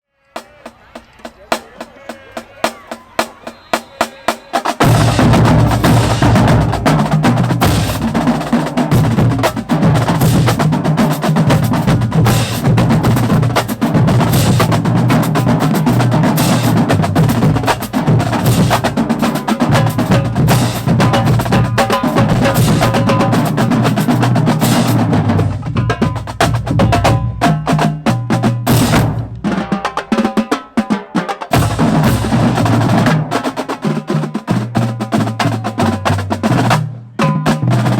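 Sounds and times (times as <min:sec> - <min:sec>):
drumline playing snare and bass drums: 0:00.4 - 0:37.9.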